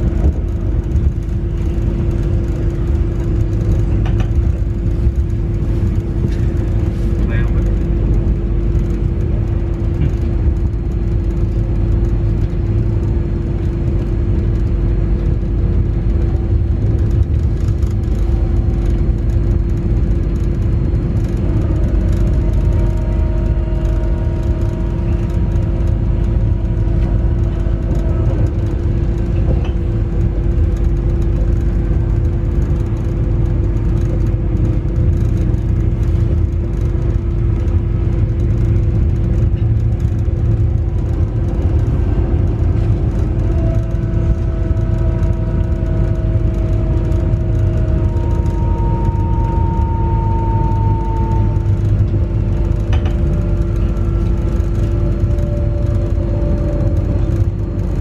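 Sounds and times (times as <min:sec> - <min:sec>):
constant hum: 0:00.0 - 0:58.0
train wheels rumbling: 0:00.0 - 0:58.0.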